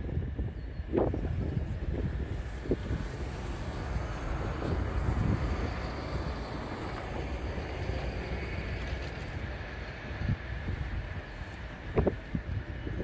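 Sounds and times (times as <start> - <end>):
low uneven rumble: 0.6 - 13.0
jet engines whining: 0.9 - 13.0.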